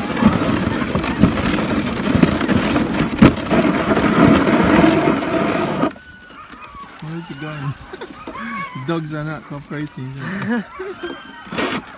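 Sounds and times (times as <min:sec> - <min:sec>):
sled frame rattling: 0:00.0 - 0:11.9
sled runners scraping snow: 0:00.0 - 0:11.9.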